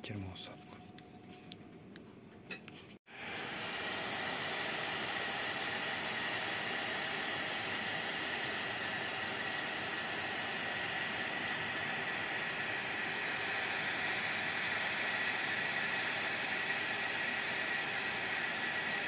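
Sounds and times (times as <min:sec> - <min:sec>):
hot air gun hissing: 0:03.1 - 0:19.0.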